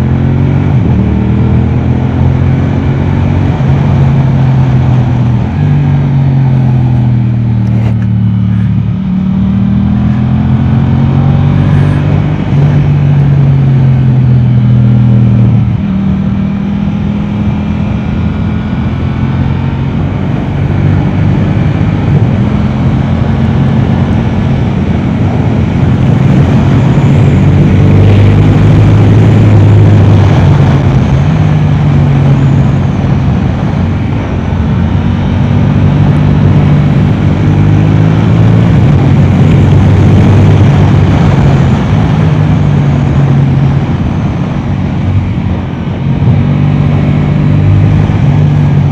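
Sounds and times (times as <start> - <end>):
motorcycle engine revving: 0.0 - 48.9
wind rush: 0.0 - 48.9.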